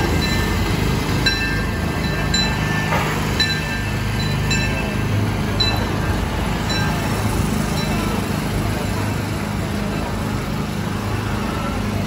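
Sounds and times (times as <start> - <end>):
steam locomotive bell ringing: 0.0 - 12.0.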